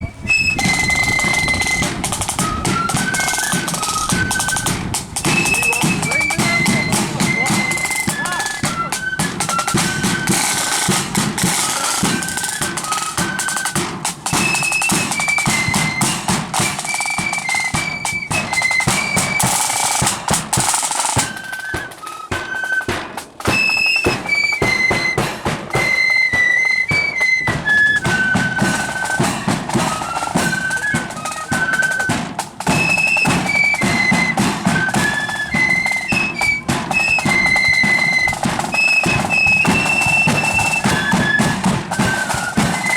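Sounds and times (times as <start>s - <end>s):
flutes playing melody: 0.0s - 42.9s
snare and bass drums: 0.0s - 42.9s.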